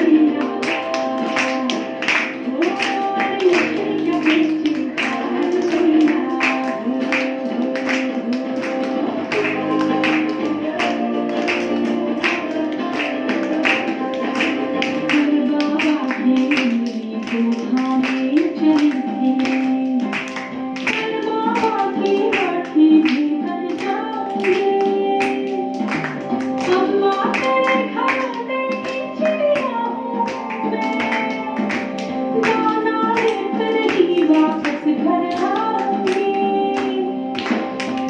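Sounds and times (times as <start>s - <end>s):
percussion beat: 0.0s - 23.2s, 23.8s - 36.3s.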